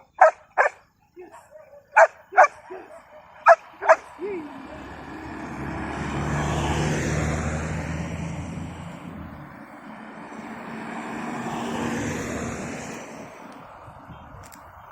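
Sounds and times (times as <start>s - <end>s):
vehicle engine drone passing: 2.0s - 14.3s.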